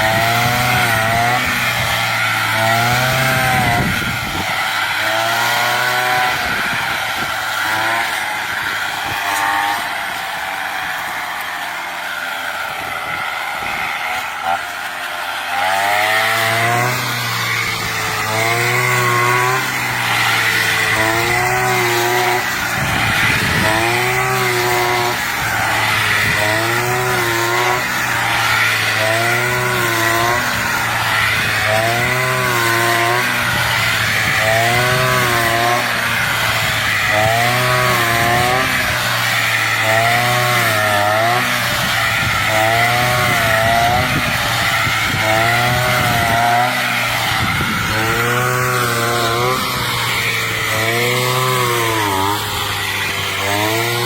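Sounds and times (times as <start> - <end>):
brush cutter engine: 0.0 - 54.0.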